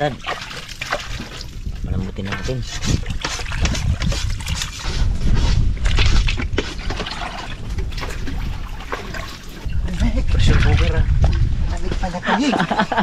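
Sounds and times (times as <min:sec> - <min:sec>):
water pouring and sloshing: 0:00.0 - 0:13.0
low rumble: 0:01.5 - 0:13.0.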